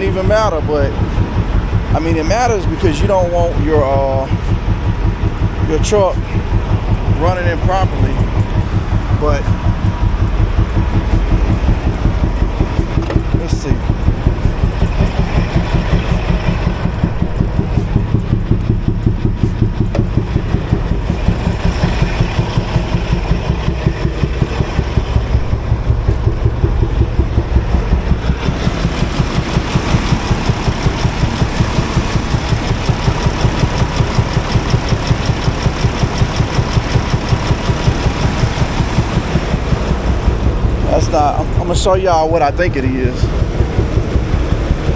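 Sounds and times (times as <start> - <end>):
diesel truck engine idling: 0.0 - 44.9
rhythmic engine thump: 0.0 - 44.9.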